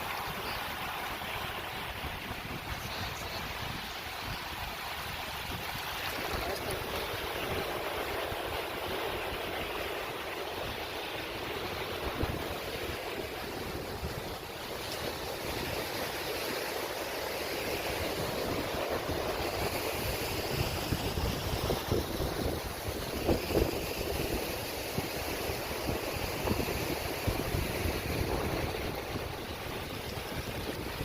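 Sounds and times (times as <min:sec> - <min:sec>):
ocean surf washing: 0:00.0 - 0:31.0
wind rumbling on microphone: 0:00.0 - 0:31.0.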